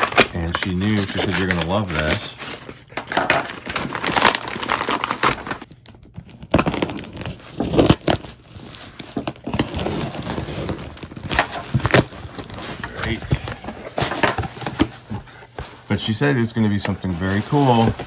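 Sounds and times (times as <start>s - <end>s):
paper and plastic wrapping tearing: 0.0s - 18.0s.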